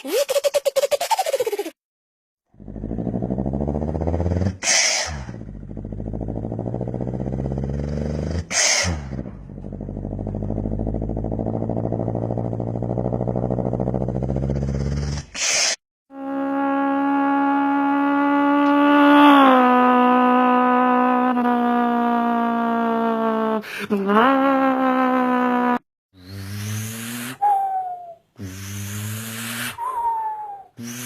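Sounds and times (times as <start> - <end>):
person imitating car engine: 2.5 - 15.3, 16.1 - 31.0.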